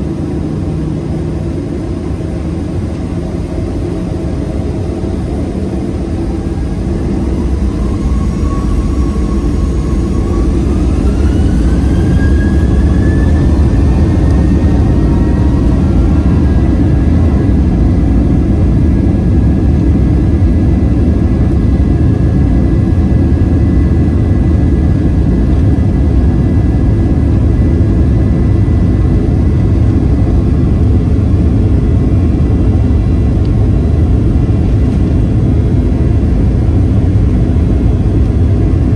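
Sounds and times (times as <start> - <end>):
jet engines spooling up: 0.0 - 38.9.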